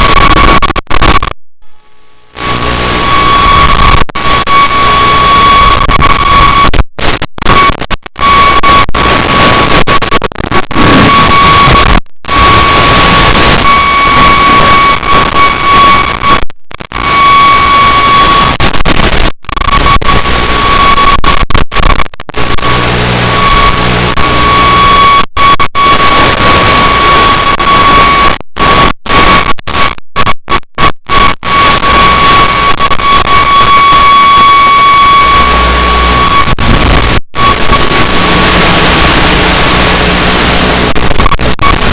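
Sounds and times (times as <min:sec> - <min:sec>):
steady high whine: 0:00.0 - 0:21.2, 0:21.8 - 0:29.4, 0:31.4 - 0:41.9
loud static hiss: 0:00.0 - 0:41.9.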